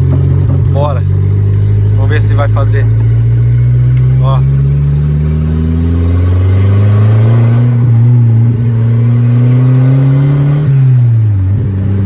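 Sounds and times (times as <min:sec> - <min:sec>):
turbocharged engine accelerating: 0:00.0 - 0:12.0.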